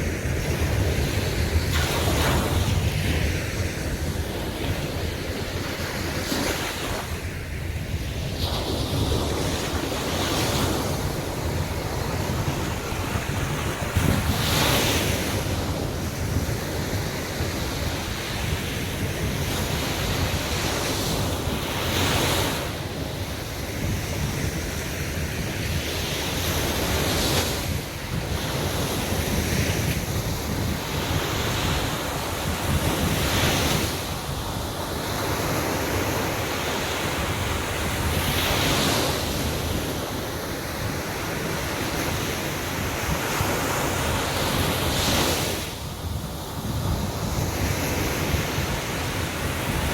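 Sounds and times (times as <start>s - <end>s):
sea waves breaking: 0.0s - 49.9s
wind buffeting microphone: 0.0s - 49.9s.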